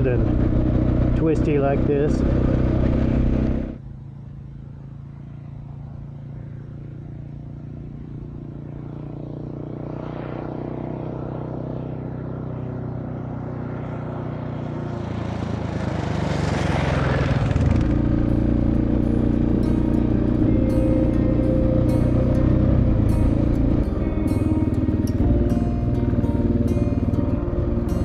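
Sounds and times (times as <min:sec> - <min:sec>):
close engine and wind noise: 0:00.0 - 0:28.0
motorcycle approaching: 0:00.0 - 0:28.0.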